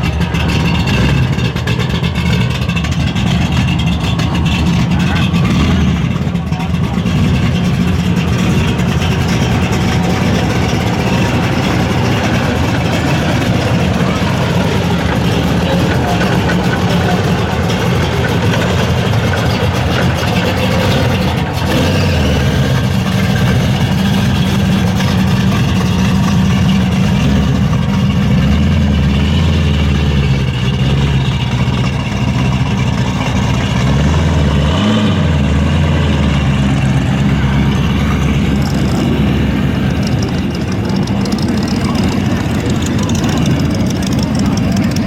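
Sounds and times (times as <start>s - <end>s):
car engine revving: 0.0s - 45.0s
car engines rumbling at low revs: 0.0s - 45.0s.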